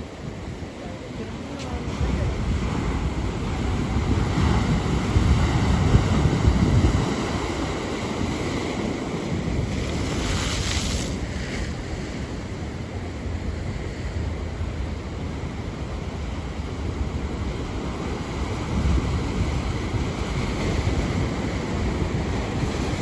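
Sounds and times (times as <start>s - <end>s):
surf breaking and washing: 0.0s - 23.0s
wind buffeting microphone: 0.0s - 23.0s.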